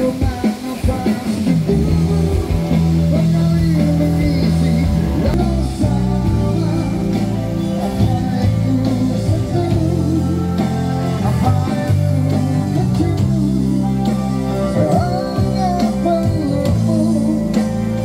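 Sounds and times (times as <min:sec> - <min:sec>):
bass line: 0:00.0 - 0:18.0
guitar: 0:00.0 - 0:18.0
keyboard: 0:00.0 - 0:18.0
person singing: 0:00.0 - 0:18.0.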